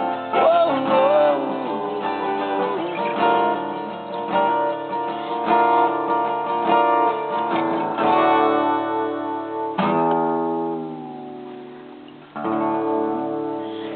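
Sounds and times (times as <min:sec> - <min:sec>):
acoustic guitar chords: 0:00.0 - 0:13.9.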